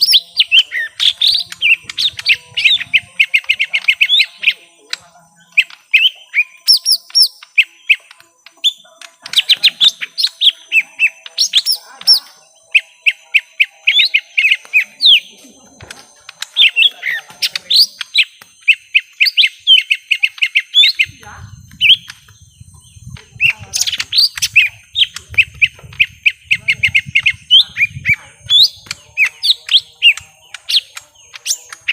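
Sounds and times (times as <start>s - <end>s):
bird chirping sharply: 0.0s - 31.9s.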